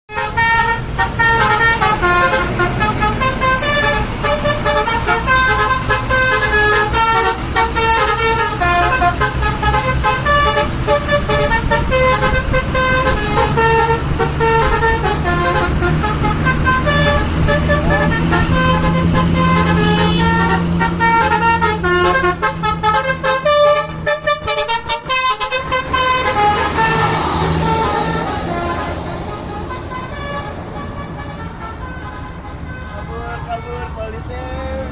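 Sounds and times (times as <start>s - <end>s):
road noise: 0.0s - 34.9s
multi-tone air horn tune: 0.1s - 33.9s
bus engine running: 0.1s - 34.9s.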